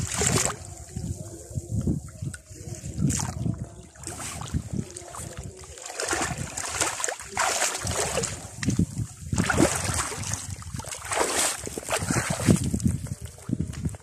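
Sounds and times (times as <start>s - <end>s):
person wading through water: 0.0s - 1.1s, 2.0s - 14.0s
wind buffeting microphone: 0.0s - 14.0s.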